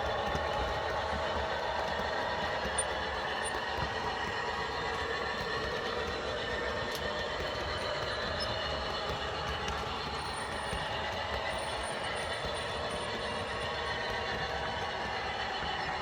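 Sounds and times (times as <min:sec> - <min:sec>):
model train motor whine: 0:00.0 - 0:16.0
wheel and rail noise: 0:00.0 - 0:16.0.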